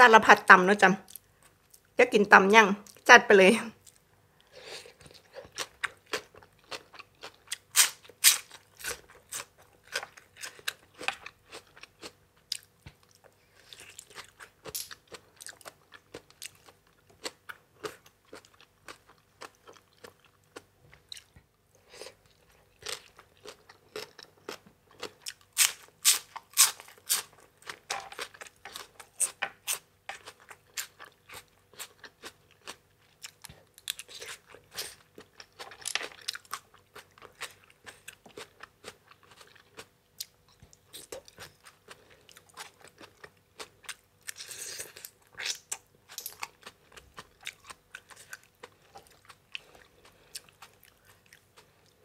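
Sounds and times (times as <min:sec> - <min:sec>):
chewing and crunching vegetables: 0:03.8 - 0:52.0.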